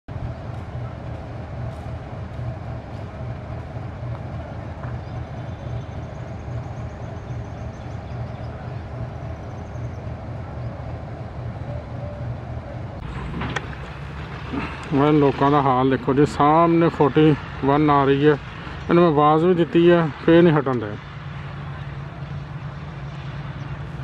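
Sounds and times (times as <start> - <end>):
locomotive engine rumbling: 0.1 - 24.0.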